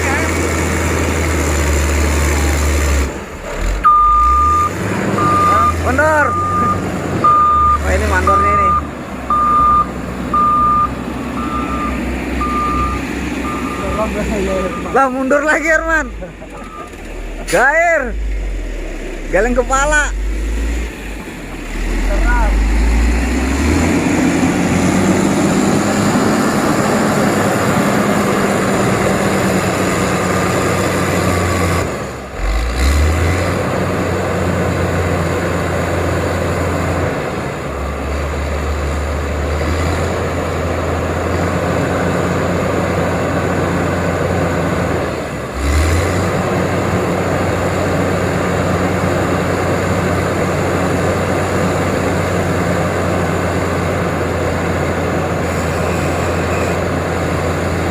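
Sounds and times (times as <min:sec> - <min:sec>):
diesel engine humming under load: 0:00.0 - 0:57.9.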